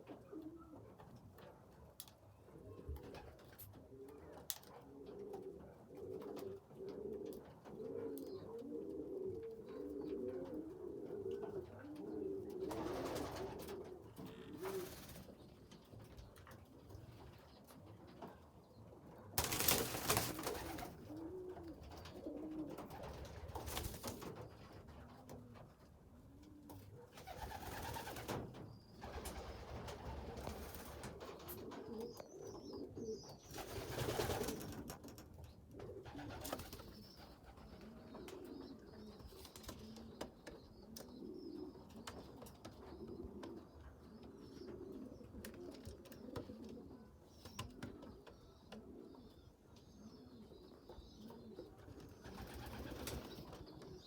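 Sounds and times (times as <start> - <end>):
pigeons cooing: 0.0 - 1.1, 2.6 - 15.8, 19.1 - 54.0.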